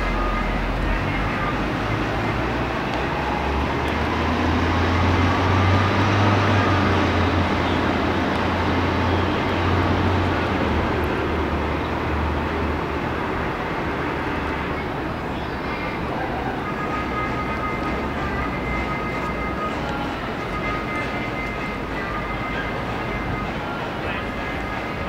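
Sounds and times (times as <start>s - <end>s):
heavy vehicle engine rumble: 0.0s - 25.0s
street traffic: 0.0s - 25.0s.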